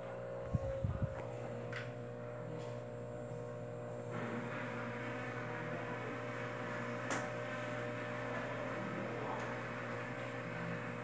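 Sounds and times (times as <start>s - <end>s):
wall fan running: 0.0s - 11.0s.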